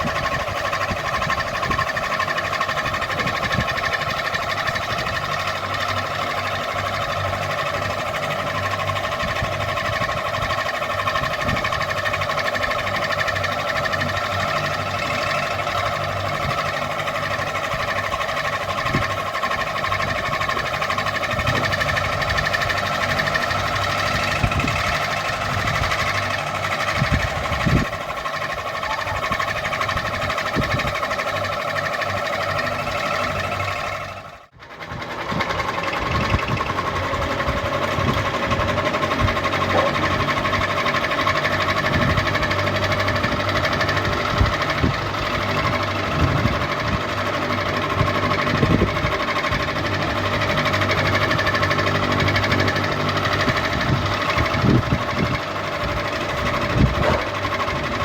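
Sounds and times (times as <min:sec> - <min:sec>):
ceiling fan motor whirring: 0:00.0 - 0:58.0.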